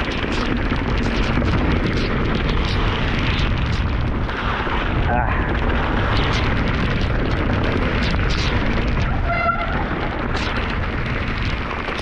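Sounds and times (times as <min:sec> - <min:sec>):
bike rattling over trail: 0:00.0 - 0:12.0
wind and rain on microphone: 0:00.0 - 0:12.0.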